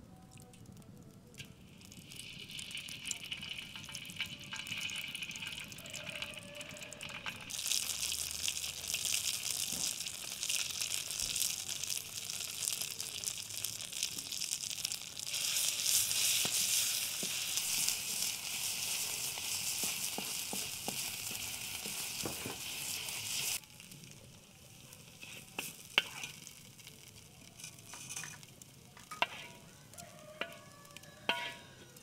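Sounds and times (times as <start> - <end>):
hot oil sizzling in a pan: 0.4 - 32.0.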